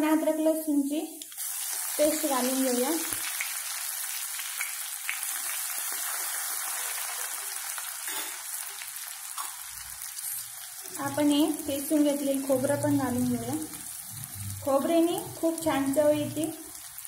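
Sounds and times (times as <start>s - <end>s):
spices sizzling in hot oil: 0.6s - 17.0s.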